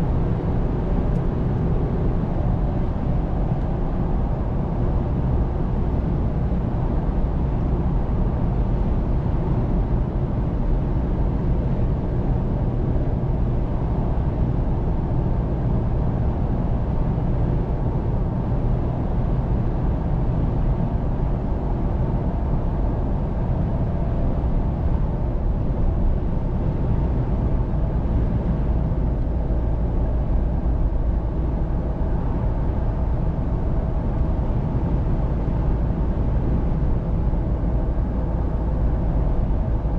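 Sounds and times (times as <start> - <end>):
engine hum: 0.0 - 39.9
tyre and road roar: 0.0 - 39.9.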